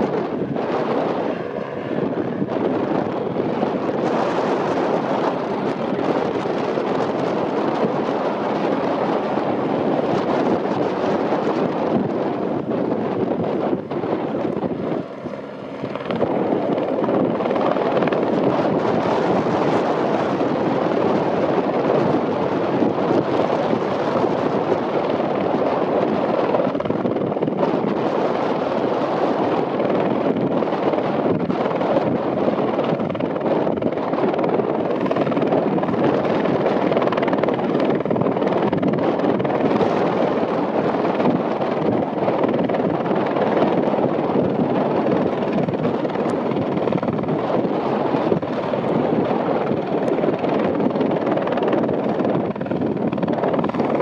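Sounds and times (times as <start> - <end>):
helicopter hovering: 0.0 - 54.0
wind on microphone: 0.0 - 54.0.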